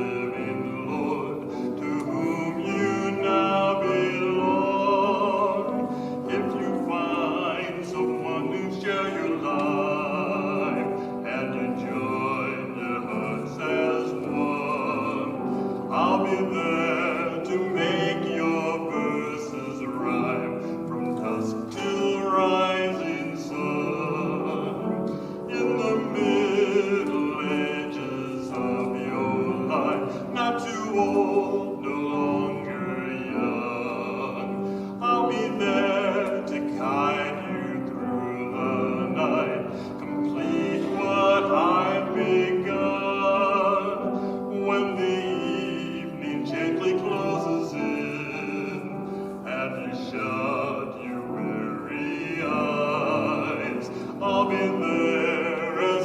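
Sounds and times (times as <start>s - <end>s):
man singing with vibrato: 0.0s - 56.0s
piano chords: 0.0s - 56.0s.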